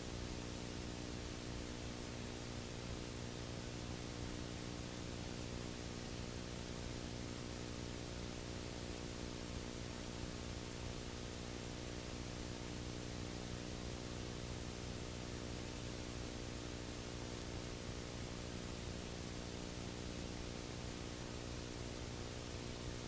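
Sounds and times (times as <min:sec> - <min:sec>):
electrical hum: 0:00.0 - 0:23.0
tape hiss: 0:00.0 - 0:23.0.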